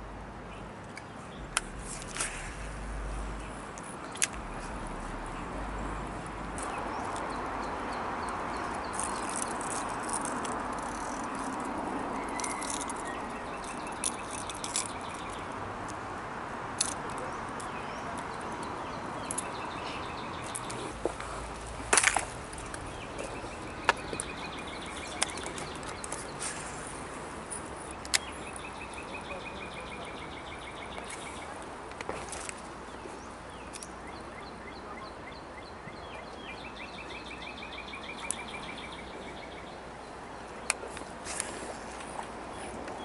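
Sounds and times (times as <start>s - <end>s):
birds singing trills: 0.5s - 15.6s, 17.2s - 21.6s, 22.5s - 43.0s.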